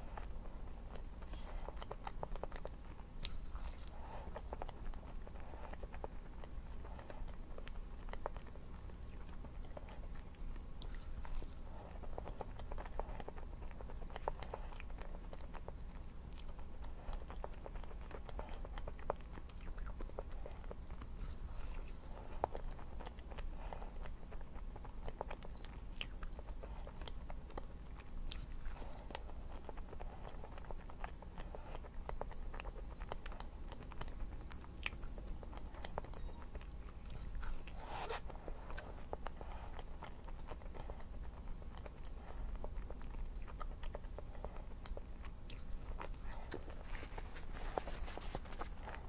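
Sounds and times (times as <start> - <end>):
person biting and chewing food: 0.0 - 49.0
steady low hum: 0.0 - 49.0.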